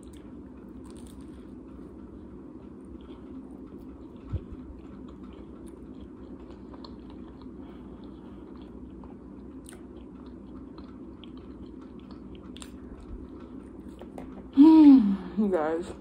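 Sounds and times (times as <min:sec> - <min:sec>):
person chewing food: 0:00.0 - 0:14.6.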